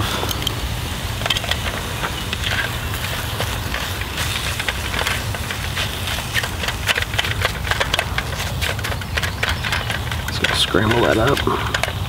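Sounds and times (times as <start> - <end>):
steady low rumble: 0.0 - 12.0
utensil scraping and tapping skillet: 1.2 - 12.0.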